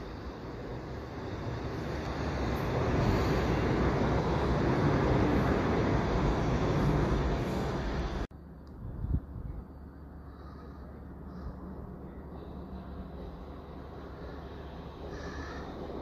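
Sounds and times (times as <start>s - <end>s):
passenger train passing: 0.0s - 8.3s, 8.9s - 16.0s.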